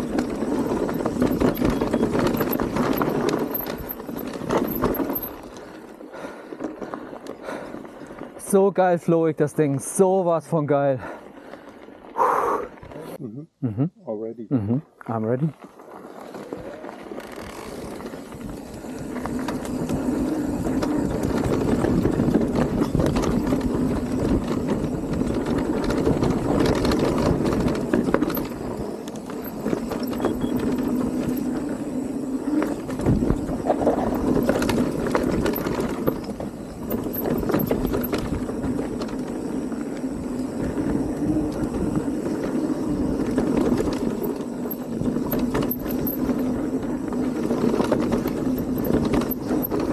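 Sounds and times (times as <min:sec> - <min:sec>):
clicks and knocks of rattling bike: 0:00.0 - 0:12.0, 0:15.6 - 0:49.9
knobby tyres rumbling over dirt: 0:00.0 - 0:13.2, 0:14.2 - 0:49.9.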